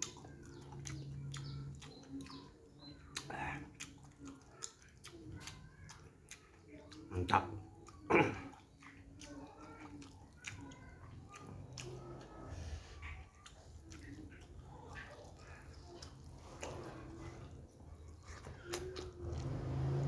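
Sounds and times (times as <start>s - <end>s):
wet mouth sounds: 0.0s - 19.6s
person chewing food: 0.0s - 20.0s.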